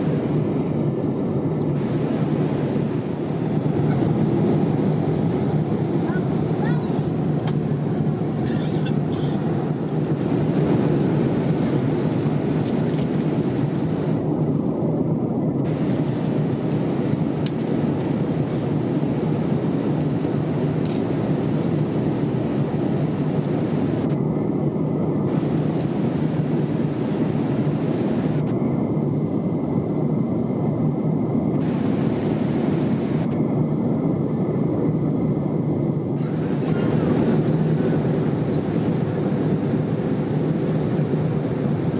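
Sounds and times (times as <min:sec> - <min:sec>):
airliner cabin engine rush: 0:00.0 - 0:41.9.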